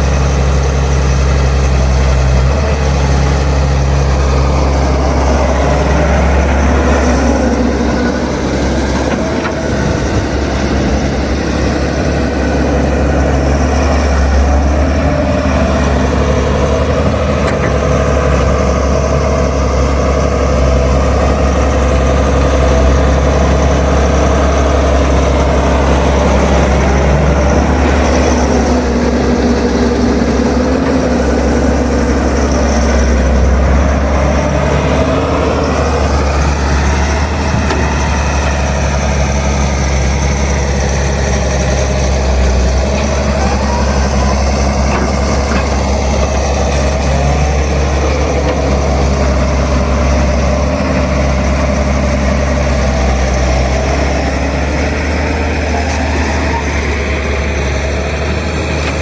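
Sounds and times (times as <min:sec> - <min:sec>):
machine engine running: 0:00.0 - 0:59.0.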